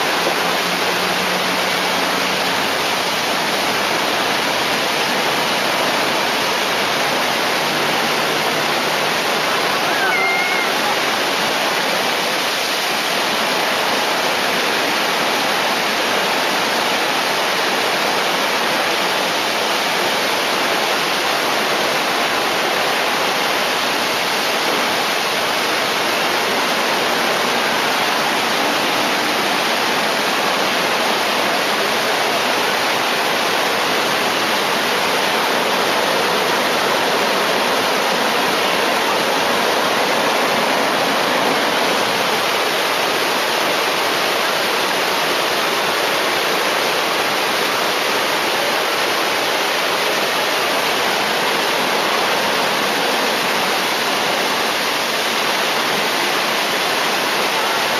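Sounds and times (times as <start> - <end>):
fast water rushing over ledge: 0.0 - 57.9.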